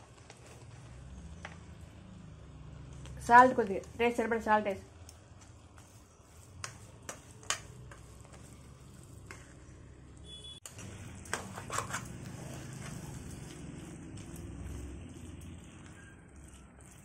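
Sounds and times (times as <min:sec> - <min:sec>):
spoon stirring food in a pan: 0:00.0 - 0:01.7, 0:02.8 - 0:17.0.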